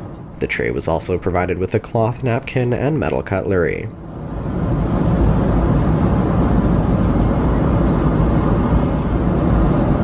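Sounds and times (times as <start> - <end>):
jet engines droning: 0.0 - 10.0.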